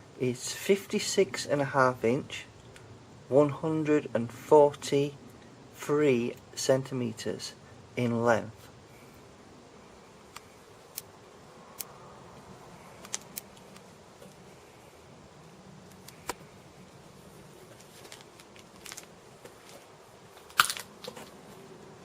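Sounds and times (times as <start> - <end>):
low steady hiss: 0.0 - 22.0.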